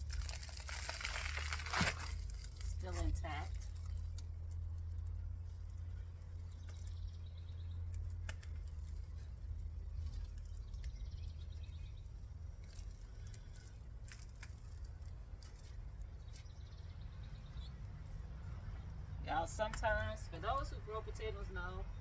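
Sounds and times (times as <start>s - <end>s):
rustling of soil and plants: 0.0s - 22.0s.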